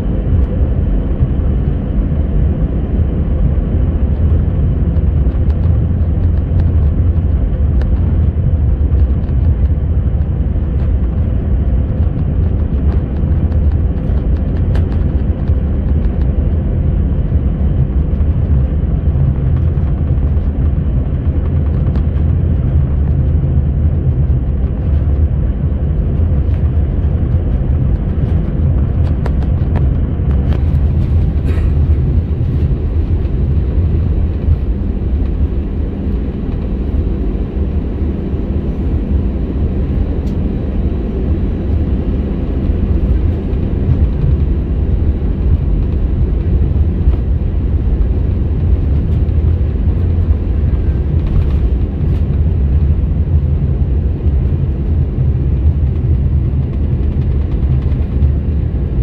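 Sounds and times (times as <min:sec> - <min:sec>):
jet engines idling in cabin: 0:00.0 - 0:59.0.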